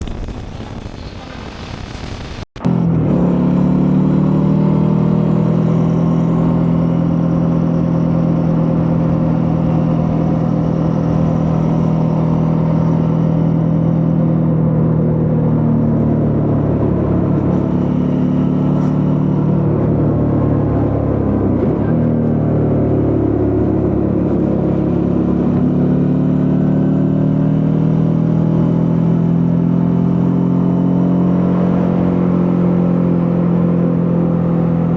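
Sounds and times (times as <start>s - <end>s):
motorcycle engine running: 2.6s - 34.9s.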